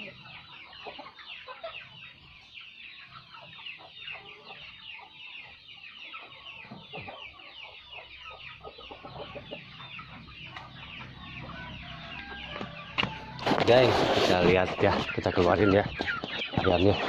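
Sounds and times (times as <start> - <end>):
chickens clucking and cheeping: 0.0 - 17.0.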